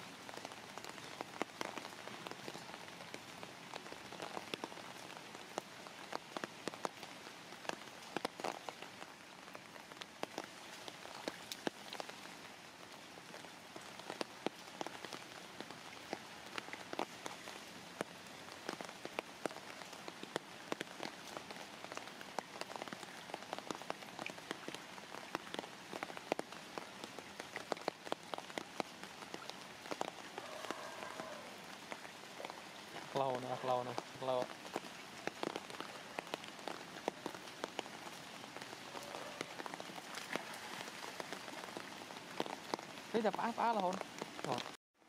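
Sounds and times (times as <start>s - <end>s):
rain falling on floodwater: 0.0s - 45.0s.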